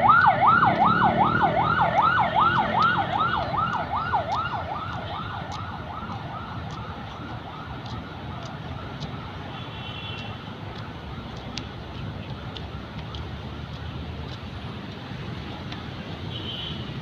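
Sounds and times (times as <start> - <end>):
emergency siren yelping: 0.0 - 13.7.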